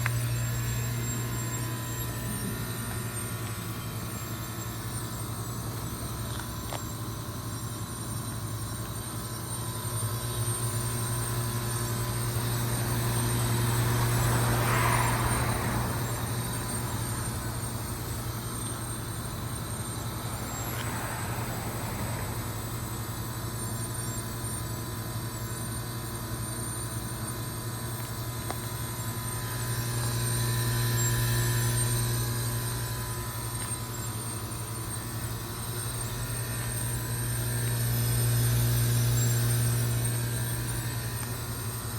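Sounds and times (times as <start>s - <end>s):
heat pump compressor humming: 0.0s - 41.9s.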